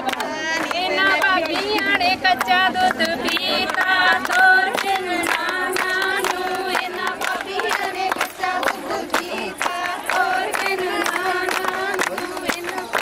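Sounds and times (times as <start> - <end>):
rhythmic hand clapping: 0.0 - 13.0
women singing folk song in chorus: 0.0 - 13.0.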